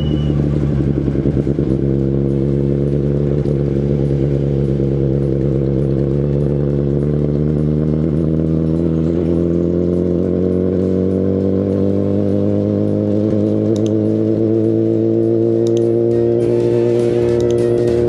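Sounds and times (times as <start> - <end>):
motorcycle engine idling steadily: 0.0 - 18.0.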